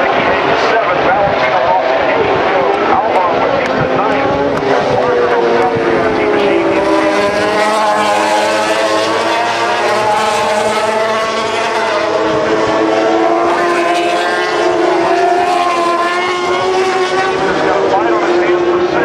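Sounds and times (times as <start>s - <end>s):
racing motorcycles revving: 0.0s - 19.0s.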